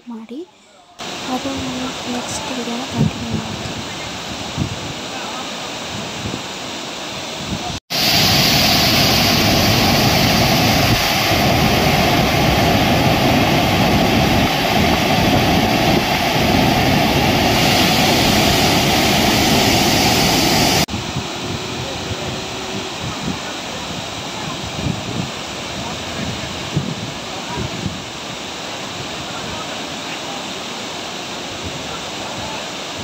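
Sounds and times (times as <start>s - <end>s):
falling water rushing: 1.0s - 33.0s
waterfall roaring: 1.0s - 33.0s.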